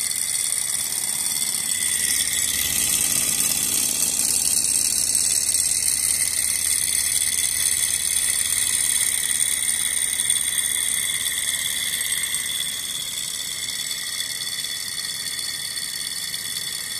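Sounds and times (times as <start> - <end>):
stirling engine whirring: 0.0 - 16.9.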